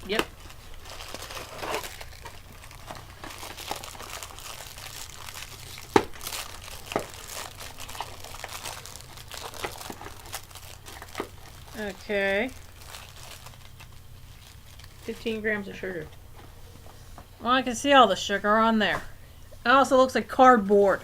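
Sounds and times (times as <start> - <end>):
foil wrapper crinkling: 0.0 - 17.2.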